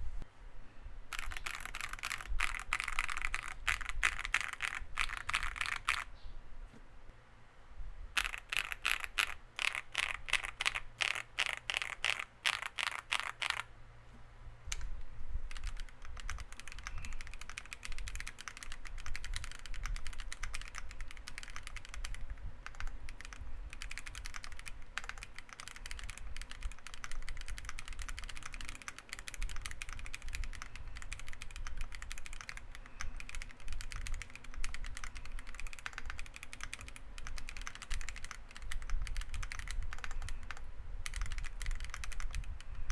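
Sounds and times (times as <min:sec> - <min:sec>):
mechanical keyboard typing: 0:01.1 - 0:06.1, 0:08.2 - 0:13.7, 0:15.5 - 0:42.9.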